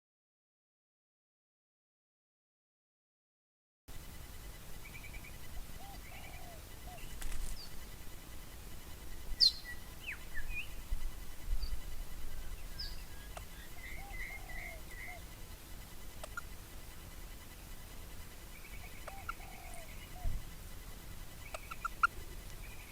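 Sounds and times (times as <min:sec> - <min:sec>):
birds chirping and calling: 0:04.5 - 0:22.9.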